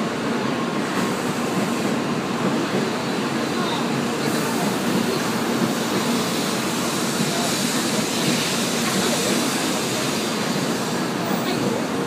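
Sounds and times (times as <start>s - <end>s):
train running with low hum: 0.0s - 12.0s.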